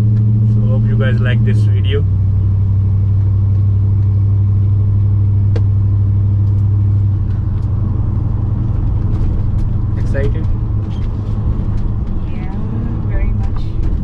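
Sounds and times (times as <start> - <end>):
pickup truck engine drone: 0.0 - 14.0.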